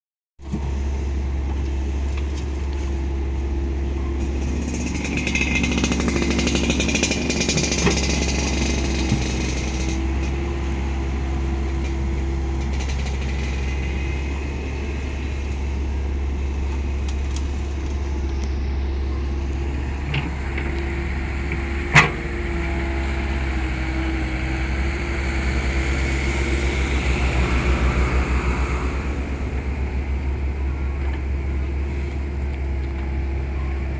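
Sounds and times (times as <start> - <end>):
diesel engine running: 0.4 - 33.9.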